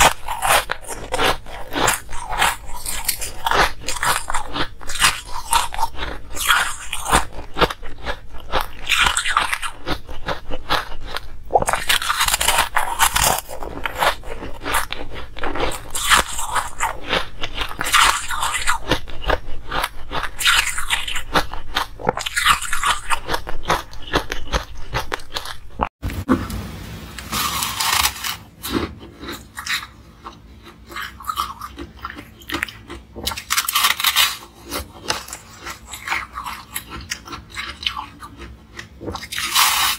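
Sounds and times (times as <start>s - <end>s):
ice being chewed crunching: 0.0s - 25.9s, 27.4s - 39.9s.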